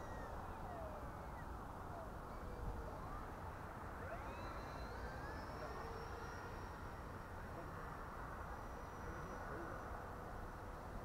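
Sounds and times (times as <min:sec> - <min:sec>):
model airplane motor whine: 0:00.0 - 0:11.0.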